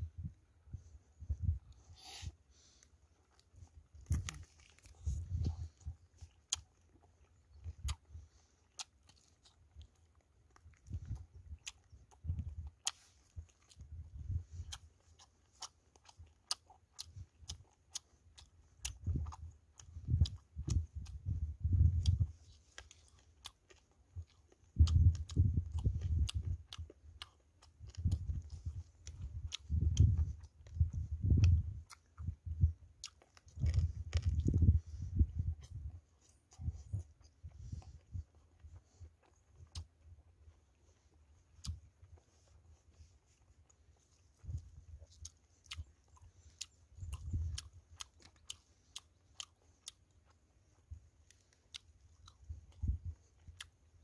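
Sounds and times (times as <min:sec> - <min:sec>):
person chewing and lip-smacking: 0:01.2 - 0:54.0.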